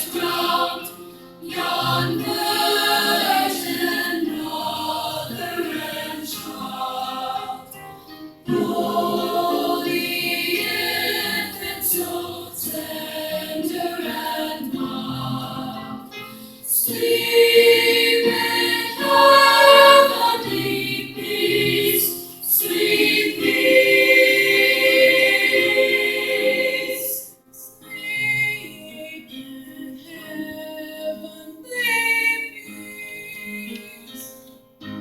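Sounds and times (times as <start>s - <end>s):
chorus singing choral piece: 0.0s - 34.3s.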